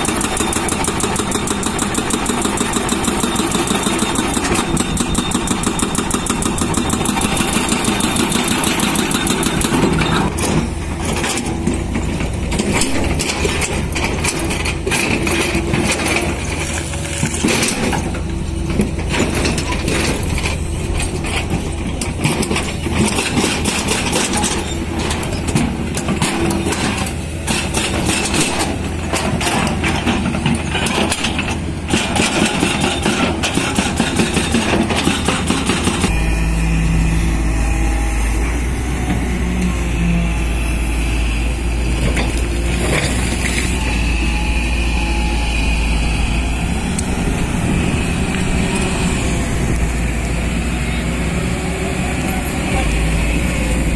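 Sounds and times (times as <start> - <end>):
diesel excavator engines: 0.0 - 53.9.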